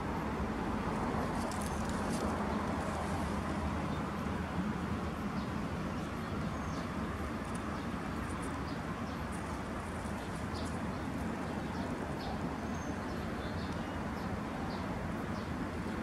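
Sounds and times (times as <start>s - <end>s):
distant traffic rumble: 0.0s - 16.0s
small birds chirping: 1.2s - 16.0s.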